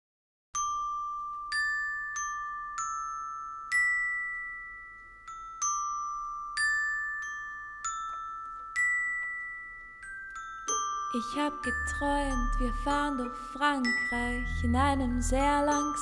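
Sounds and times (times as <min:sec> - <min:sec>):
glockenspiel melody: 0:00.6 - 0:16.0.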